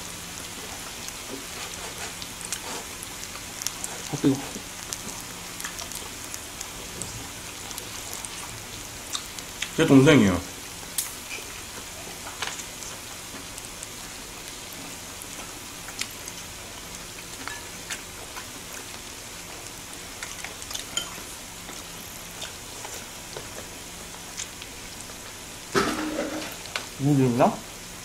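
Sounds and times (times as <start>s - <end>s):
meat sizzling on a griddle: 0.0s - 28.0s.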